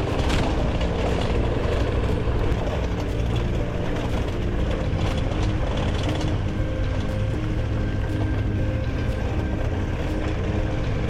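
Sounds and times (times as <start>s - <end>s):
clicks and rattles over ground: 0.0s - 11.0s
motorcycle engine running: 0.0s - 11.0s.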